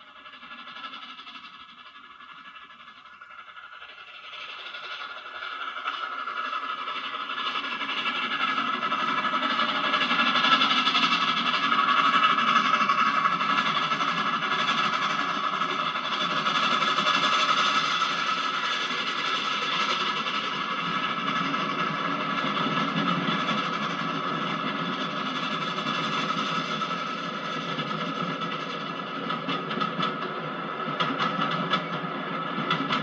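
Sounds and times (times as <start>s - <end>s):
steam train running past: 0.0s - 33.0s.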